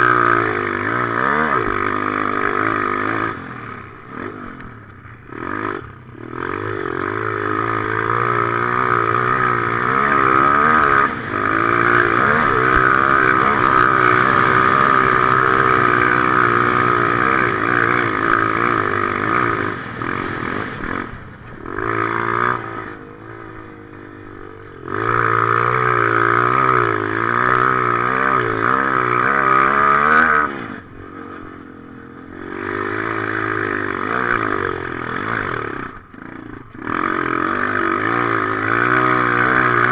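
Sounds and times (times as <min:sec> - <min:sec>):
motocross motorcycle engine revving: 0:00.0 - 0:39.9.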